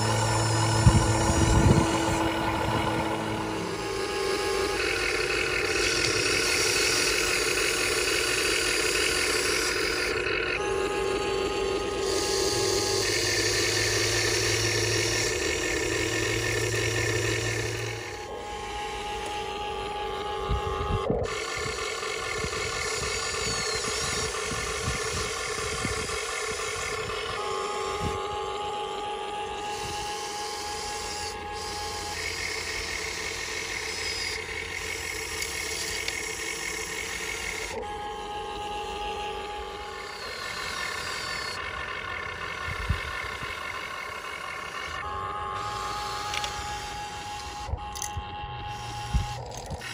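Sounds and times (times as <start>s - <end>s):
electric motors whining: 0.0s - 49.9s.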